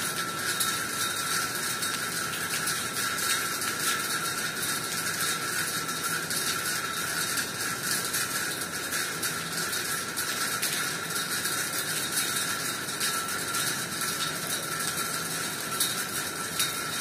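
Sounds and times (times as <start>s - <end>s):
rain falling on trees and concrete: 0.0s - 17.0s.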